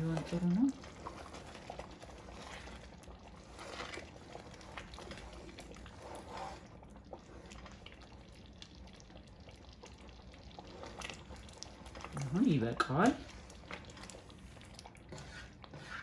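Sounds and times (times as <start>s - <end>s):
stew bubbling in a pot: 0.0s - 16.0s
wooden spoon stirring stew: 0.0s - 16.0s.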